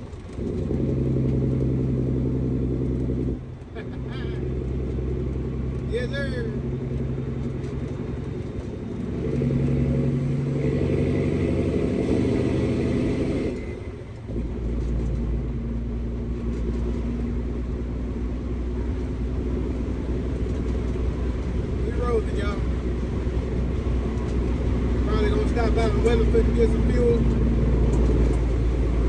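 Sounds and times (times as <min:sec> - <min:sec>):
diesel truck engine accelerating: 0:00.0 - 0:29.0.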